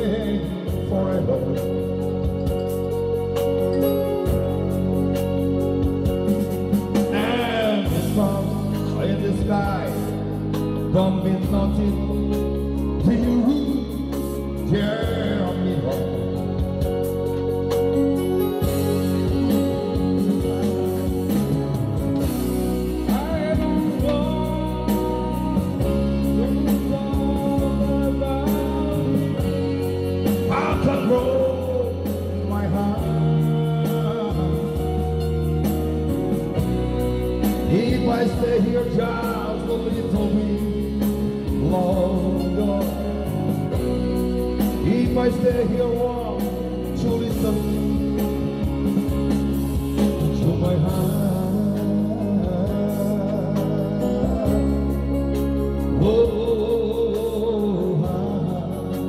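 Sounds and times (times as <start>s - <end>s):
man singing into a microphone: 0.0s - 59.0s
rock backing track: 0.0s - 59.0s.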